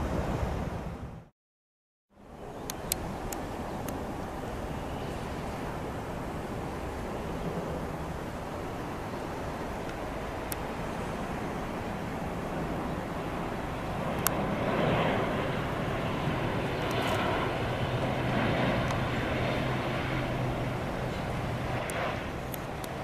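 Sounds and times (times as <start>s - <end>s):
jet airliner engines rushing: 2.2s - 23.0s.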